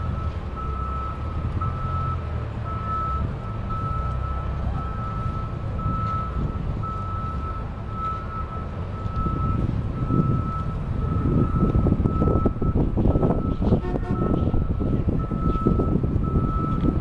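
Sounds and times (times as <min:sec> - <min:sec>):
heavy vehicle engine rumble: 0:00.0 - 0:17.0
vehicle backup alarm beeping: 0:00.0 - 0:17.0.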